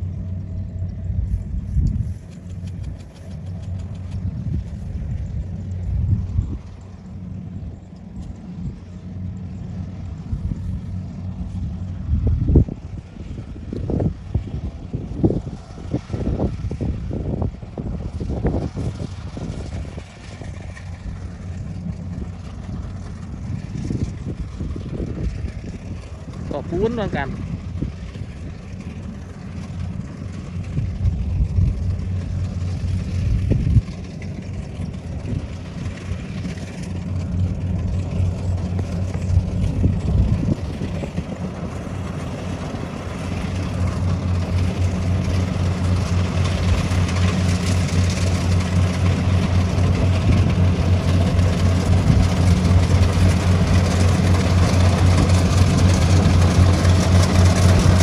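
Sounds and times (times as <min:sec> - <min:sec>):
combine harvester engine humming: 0:00.0 - 0:58.0.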